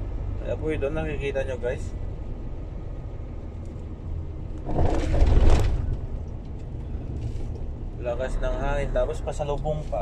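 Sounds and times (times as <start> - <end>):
diesel vehicle engine drone: 0.0 - 10.0.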